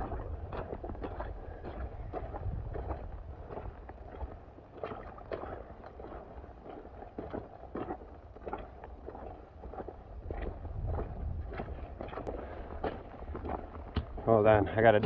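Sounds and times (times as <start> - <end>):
footsteps on wet gravel: 0.0 - 15.0
wind rumbling on microphone: 0.0 - 15.0.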